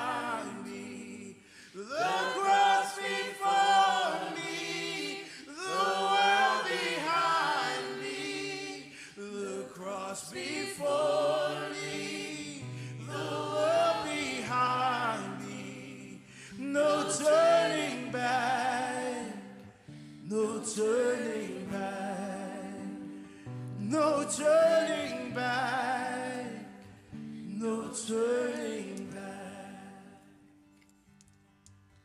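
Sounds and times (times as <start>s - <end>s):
group singing a hymn: 0.0s - 23.2s, 23.8s - 30.3s.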